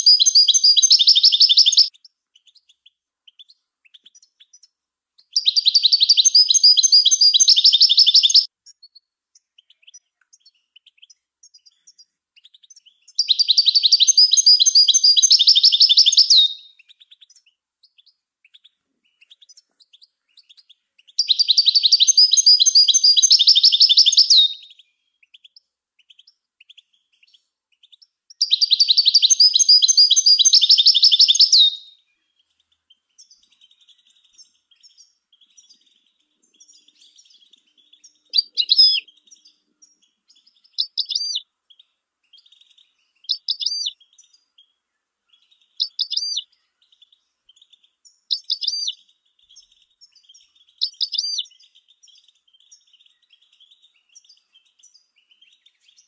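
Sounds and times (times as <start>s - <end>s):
goldfinch twittering: 0.0s - 2.6s, 5.3s - 8.5s, 9.6s - 24.8s, 28.3s - 32.0s, 33.1s - 44.6s, 45.3s - 56.0s.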